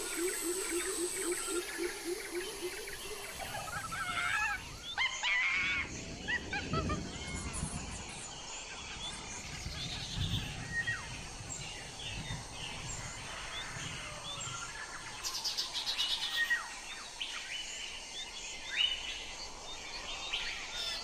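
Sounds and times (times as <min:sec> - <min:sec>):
wild birds chirping: 0:00.0 - 0:21.0.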